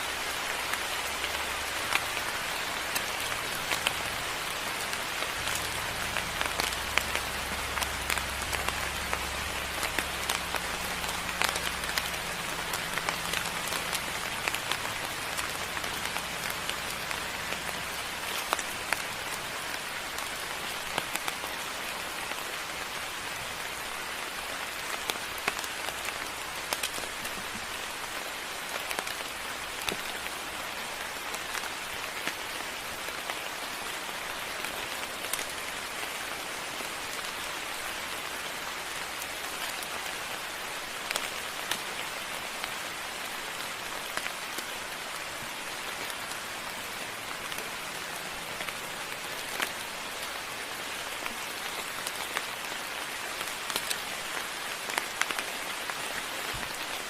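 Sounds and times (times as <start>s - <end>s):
close raindrops striking: 0.0s - 57.0s
rain falling: 0.0s - 57.0s.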